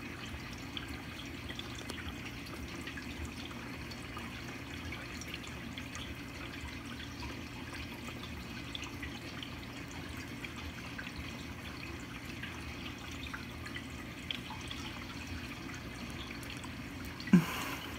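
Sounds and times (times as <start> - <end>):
low pump hum: 0.0 - 17.9
water trickling and dripping: 0.0 - 17.9.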